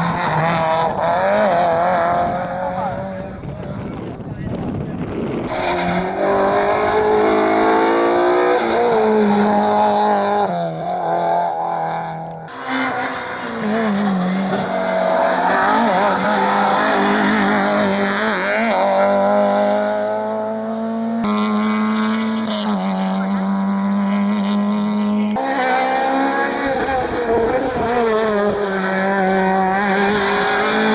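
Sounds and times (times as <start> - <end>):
rally car engines at hard throttle: 0.0 - 30.9.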